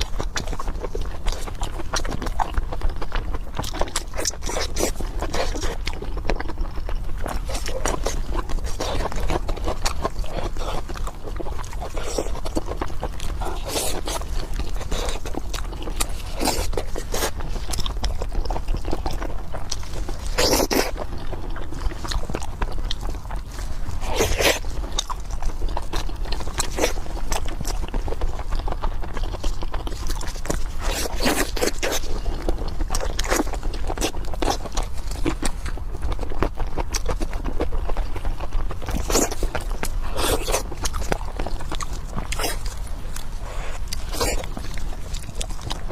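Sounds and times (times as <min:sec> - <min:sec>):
chewing crunches: 0:00.0 - 0:45.9
steady low hum: 0:00.0 - 0:45.9.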